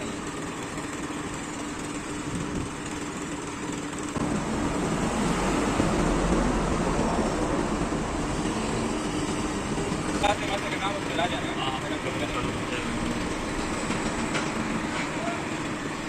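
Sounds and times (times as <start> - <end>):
road traffic: 0.0 - 16.0
vehicle engine hum: 0.0 - 16.0.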